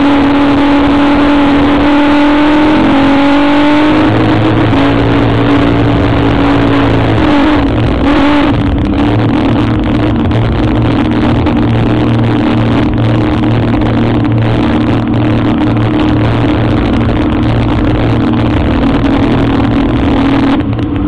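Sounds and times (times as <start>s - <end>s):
powerboat engines running: 0.0s - 21.0s.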